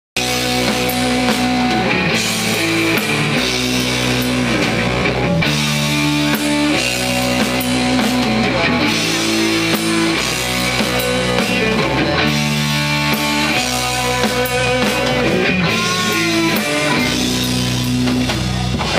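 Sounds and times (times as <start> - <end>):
rock band playing: 0.2 - 18.9.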